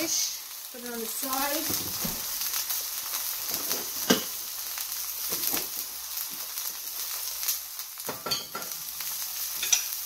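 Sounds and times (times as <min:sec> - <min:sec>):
steak sizzling in skillet: 0:00.0 - 0:10.0.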